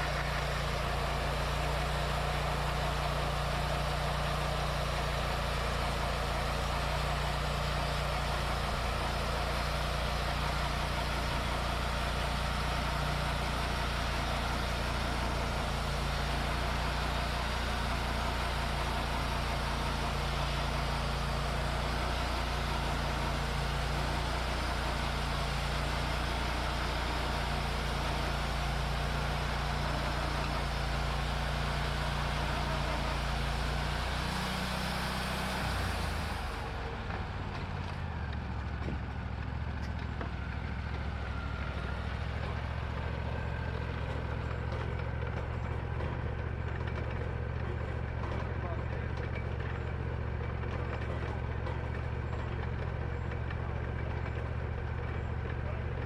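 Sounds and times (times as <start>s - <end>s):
sawmill engine drone: 0.0s - 56.0s.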